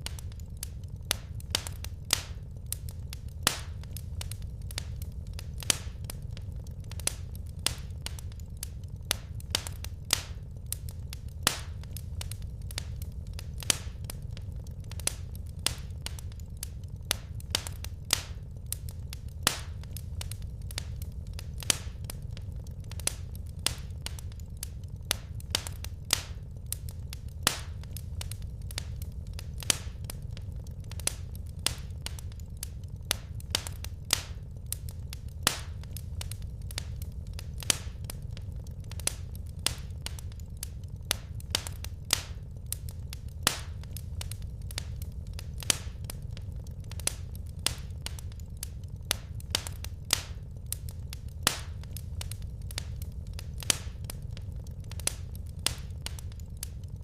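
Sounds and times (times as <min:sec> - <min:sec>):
steady low rumble: 0:00.0 - 0:57.0
wood fire crackling: 0:00.0 - 0:57.0.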